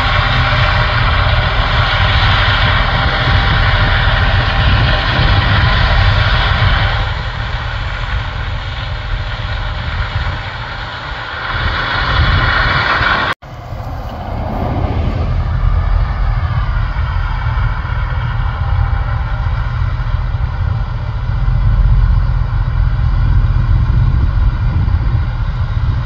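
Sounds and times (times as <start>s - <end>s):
combine and tractor rumbling: 0.0s - 26.0s.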